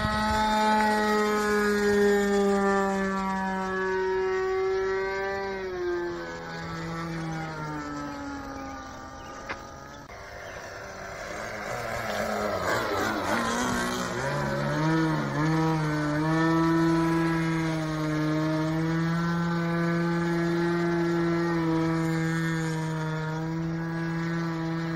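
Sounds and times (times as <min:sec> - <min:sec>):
model plane engine: 0:00.0 - 0:24.9.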